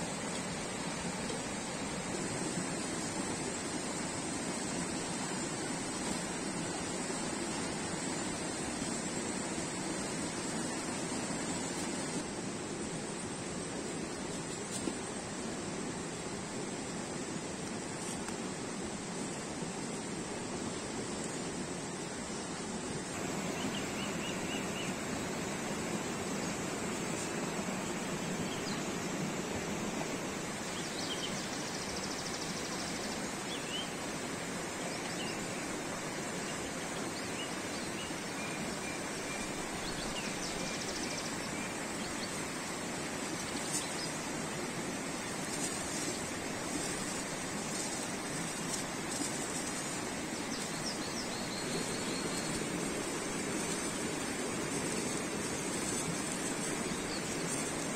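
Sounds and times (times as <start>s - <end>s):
mountain stream rushing over rocks: 0.0s - 57.9s.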